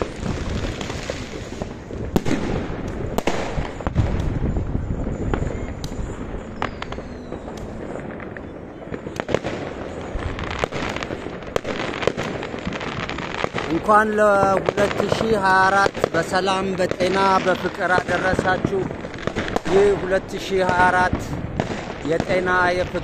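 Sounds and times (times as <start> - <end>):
fireworks rumble and crackle: 0.0 - 23.0
sharp firework bangs: 0.0 - 23.0.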